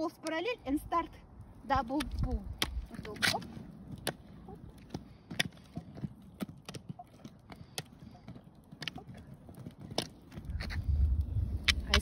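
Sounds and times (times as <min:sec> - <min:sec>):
ski pole tips clicking on asphalt: 0:01.8 - 0:12.0.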